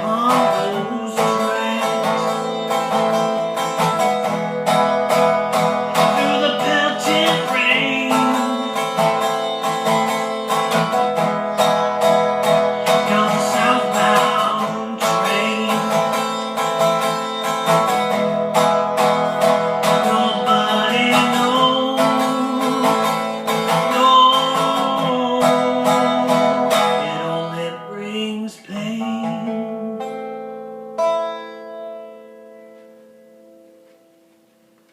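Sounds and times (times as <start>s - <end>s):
fast-picked acoustic guitar: 0.0s - 34.2s.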